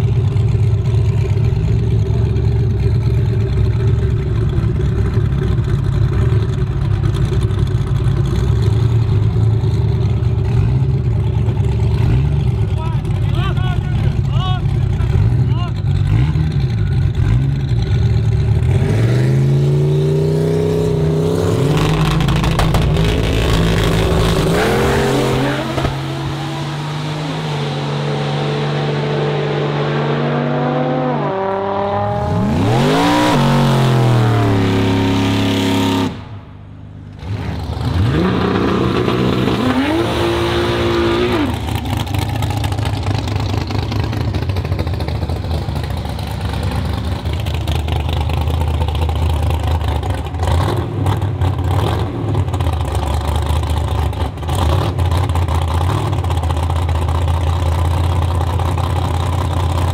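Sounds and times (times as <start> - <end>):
cars accelerating at full throttle: 0.0 - 59.9.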